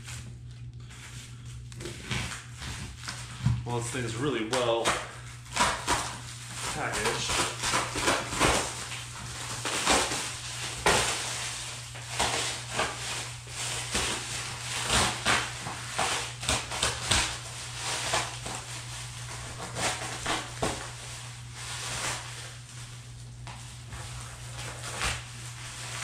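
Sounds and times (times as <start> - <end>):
plastic stretch wrap crinkling: 0.0 - 26.0.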